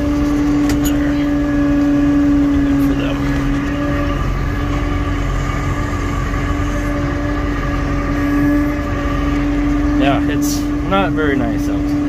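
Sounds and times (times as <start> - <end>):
tractor engine running in cab: 0.0 - 12.0.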